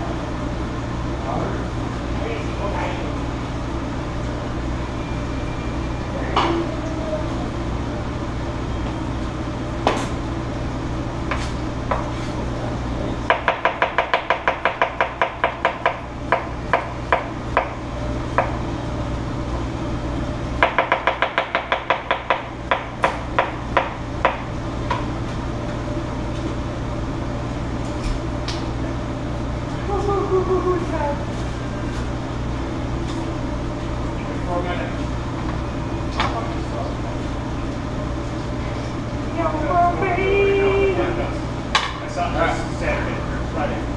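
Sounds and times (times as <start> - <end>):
kitchen exhaust hood hum: 0.0 - 43.9.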